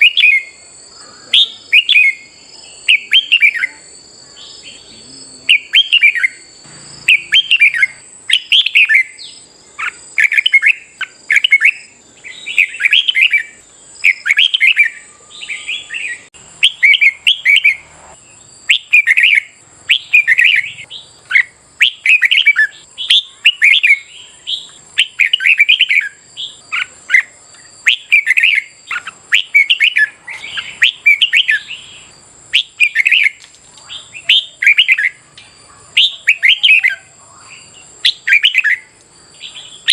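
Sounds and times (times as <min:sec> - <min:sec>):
bulbul singing warbled phrases: 0:00.0 - 0:39.9.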